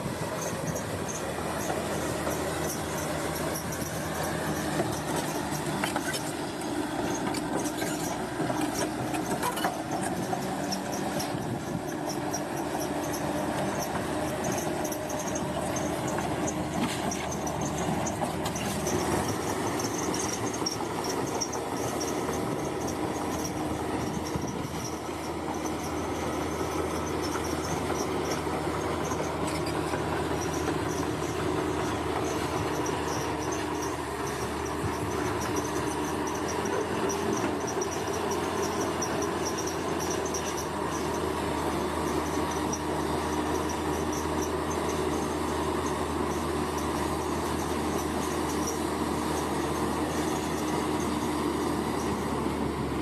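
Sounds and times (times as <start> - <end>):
bulldozer engine drone: 0.0 - 53.0.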